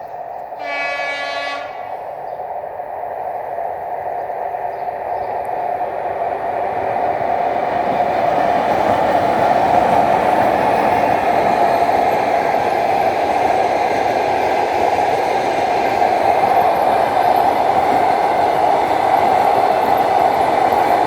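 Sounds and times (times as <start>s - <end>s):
train wheels on rails: 0.0s - 21.0s
electric locomotive running: 0.1s - 21.0s.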